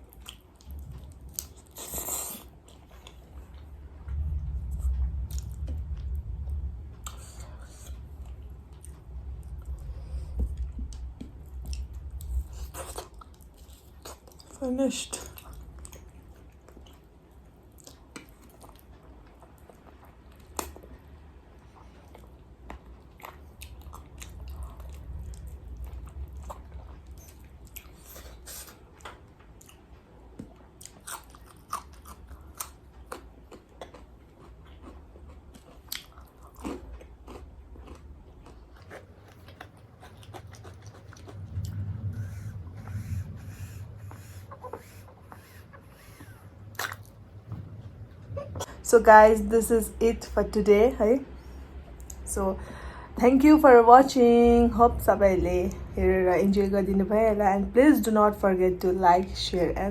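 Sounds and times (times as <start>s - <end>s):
chewing fried chicken: 0.0s - 3.9s, 4.7s - 48.8s
steady low hum: 0.0s - 59.9s.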